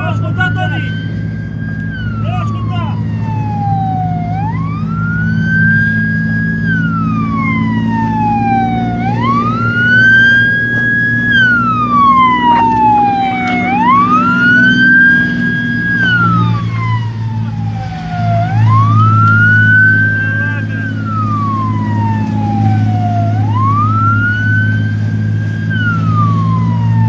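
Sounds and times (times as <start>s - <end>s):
boat engine humming: 0.0s - 27.0s
siren wailing: 0.0s - 27.0s.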